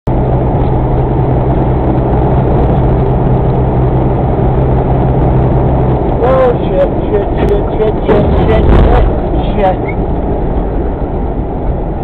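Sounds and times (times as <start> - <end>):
car road and engine noise: 0.1 - 12.0.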